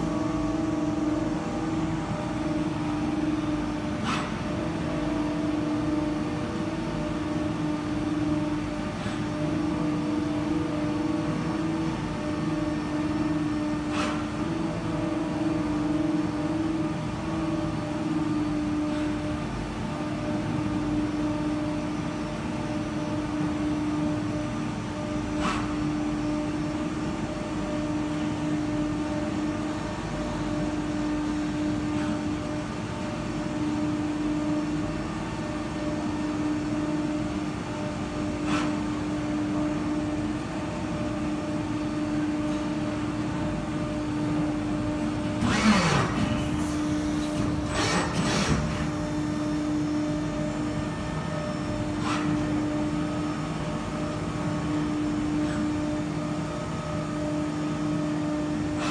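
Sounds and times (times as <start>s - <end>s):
machining center humming: 0.0s - 58.8s.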